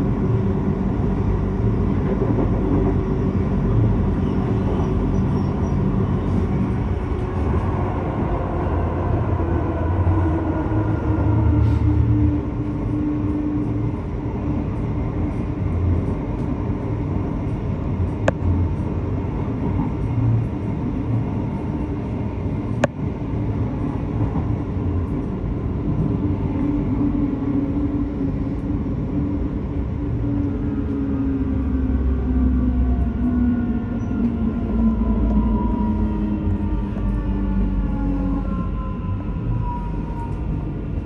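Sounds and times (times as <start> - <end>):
train rumbling: 0.0 - 41.0.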